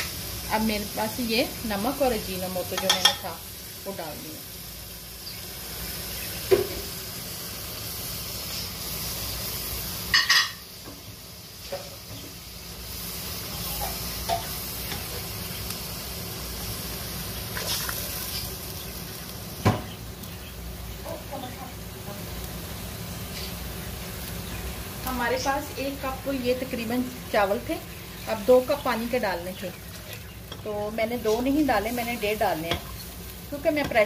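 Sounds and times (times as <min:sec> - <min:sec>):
liquid bubbling and sizzling: 0:00.0 - 0:34.0
steady hiss: 0:00.0 - 0:34.0.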